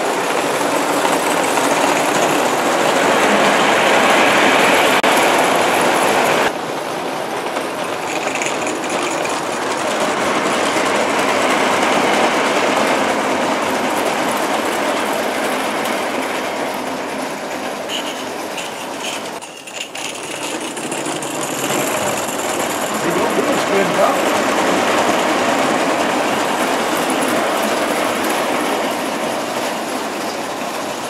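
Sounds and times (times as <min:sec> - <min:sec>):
model train wheels clattering: 0:00.0 - 0:06.5, 0:07.4 - 0:31.0.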